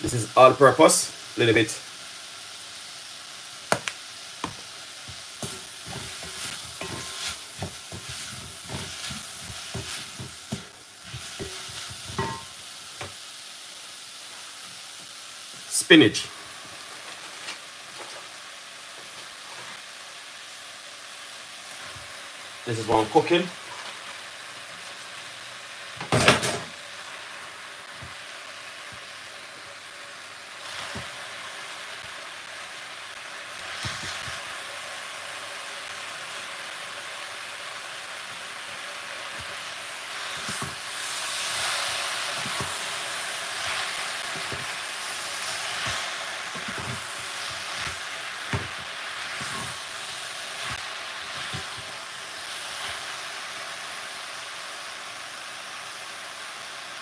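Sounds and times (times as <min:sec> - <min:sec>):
vegetables sizzling in a pot: 0:00.0 - 0:57.0.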